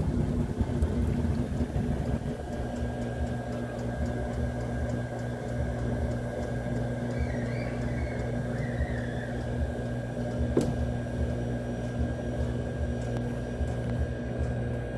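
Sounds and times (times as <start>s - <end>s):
washing machine running: 0.0s - 14.9s.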